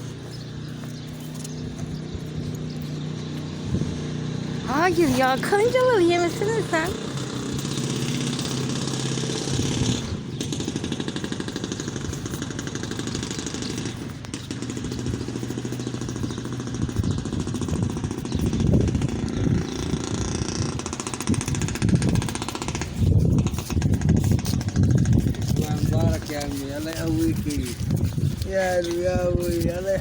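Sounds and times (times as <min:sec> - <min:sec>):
engine running with rapid pulse: 0:00.0 - 0:30.0.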